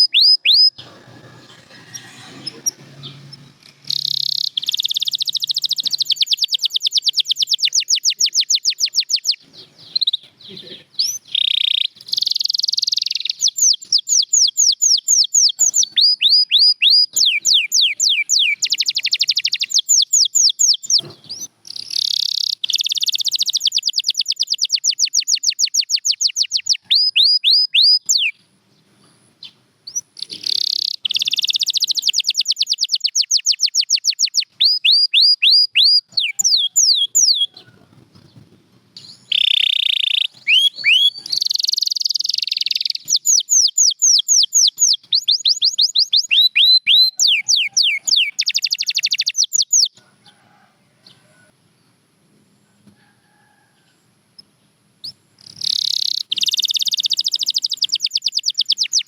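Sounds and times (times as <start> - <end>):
canary singing: 0.0 - 28.4, 29.4 - 51.5, 54.4 - 59.0.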